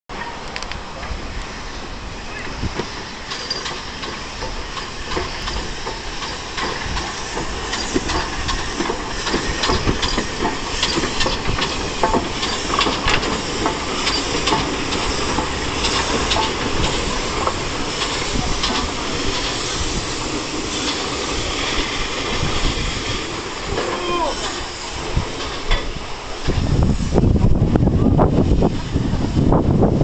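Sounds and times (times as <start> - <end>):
steam locomotive passing: 0.1 - 30.0
wheels clicking and clanking on rails: 0.1 - 30.0
steam hissing: 0.8 - 30.0.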